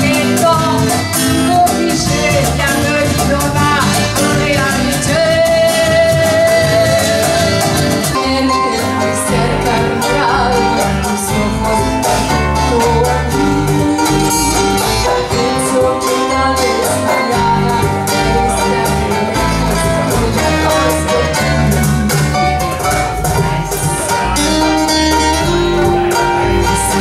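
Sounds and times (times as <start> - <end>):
woman singing into a microphone: 0.0 - 22.7
acoustic guitar: 0.0 - 27.0
walking bass line: 0.0 - 27.0.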